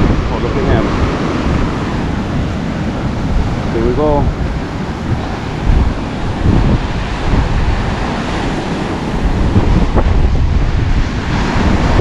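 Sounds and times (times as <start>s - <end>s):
ocean surf washing onto shore: 0.0s - 12.0s
wind rumbling on microphone: 0.0s - 12.0s.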